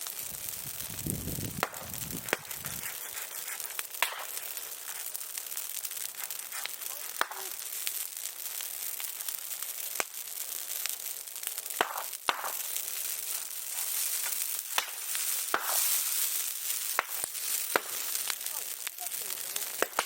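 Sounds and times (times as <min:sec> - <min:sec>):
bonfire hissing and crackling: 0:00.0 - 0:20.0
sharp fire pops: 0:00.0 - 0:20.0.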